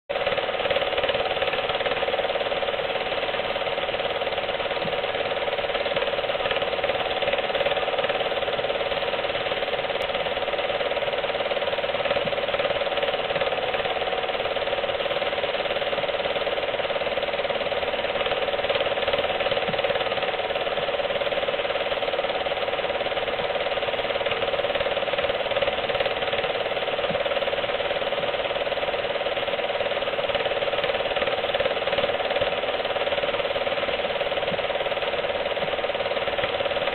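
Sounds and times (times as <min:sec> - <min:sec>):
film projector clattering: 0:00.1 - 0:36.9.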